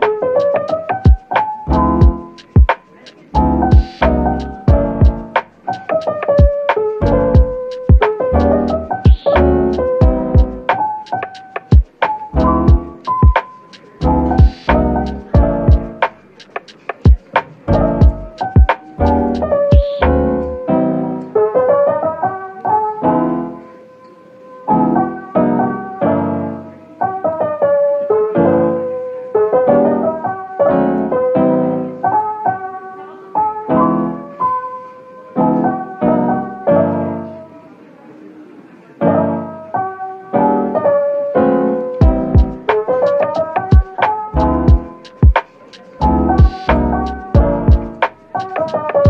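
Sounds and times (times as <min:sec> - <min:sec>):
gentle piano music: 0:00.0 - 0:49.0.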